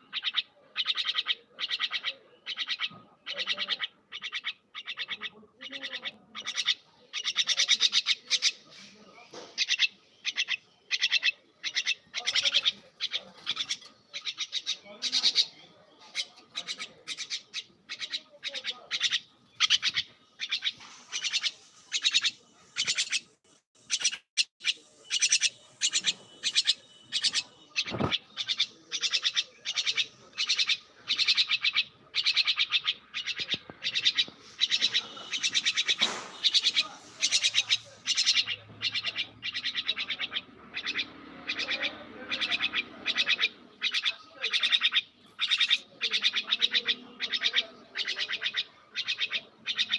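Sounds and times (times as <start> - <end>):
bird chirping: 0.0 - 49.9.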